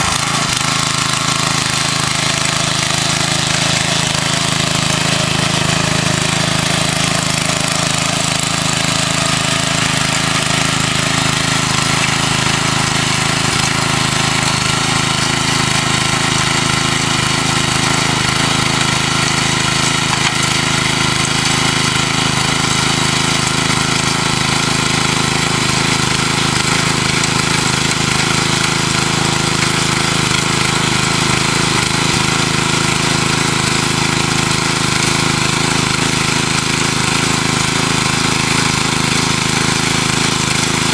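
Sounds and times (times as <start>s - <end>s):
rototiller engine running: 0.0s - 40.9s
tines digging through soil: 0.0s - 40.9s.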